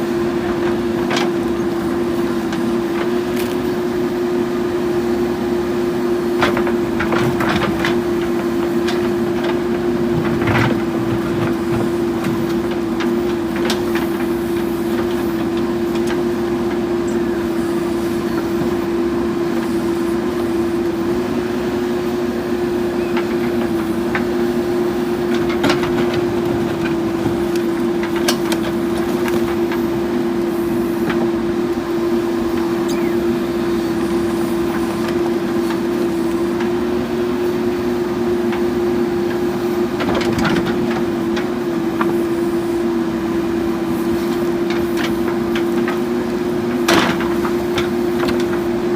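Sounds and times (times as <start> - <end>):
backhoe loader engine whining: 0.0 - 48.9.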